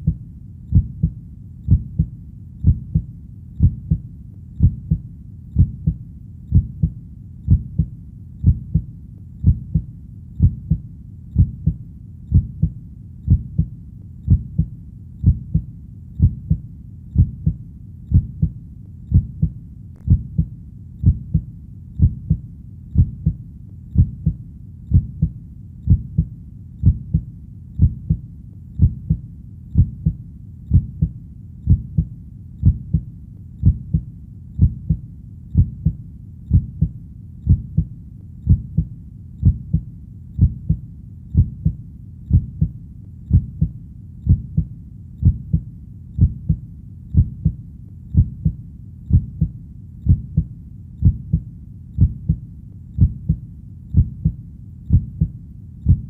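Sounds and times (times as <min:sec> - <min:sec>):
slow heartbeat: 0:00.0 - 0:56.0.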